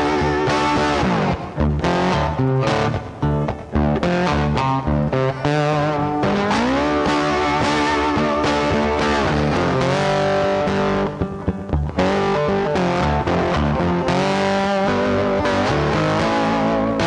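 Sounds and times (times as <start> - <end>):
electric guitar music with bass: 0.0 - 17.0.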